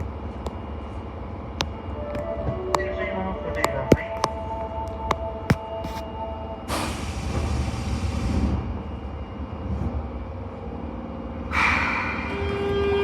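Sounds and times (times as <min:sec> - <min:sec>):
low rumble of standing train: 0:00.0 - 0:13.0.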